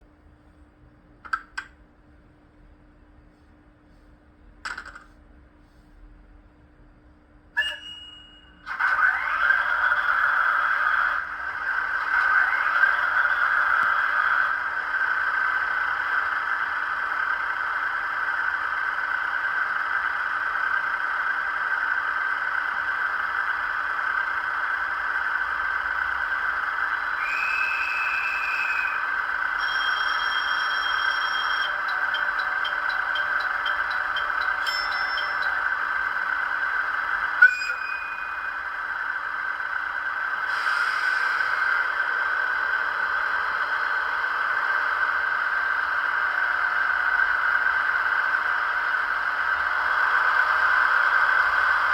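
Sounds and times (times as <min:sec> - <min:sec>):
diesel engine idle through small speaker: 0:08.7 - 0:37.4, 0:38.0 - 0:51.9.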